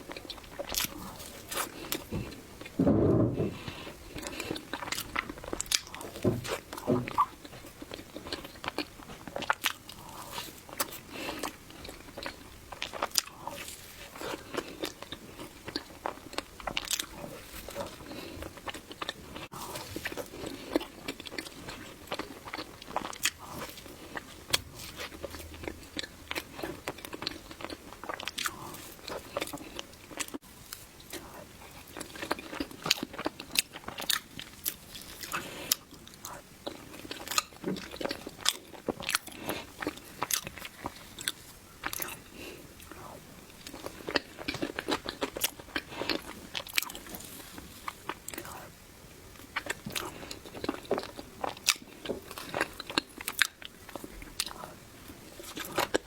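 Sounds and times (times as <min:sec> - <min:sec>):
person chewing cake: 0:00.0 - 0:02.8, 0:03.4 - 0:56.0.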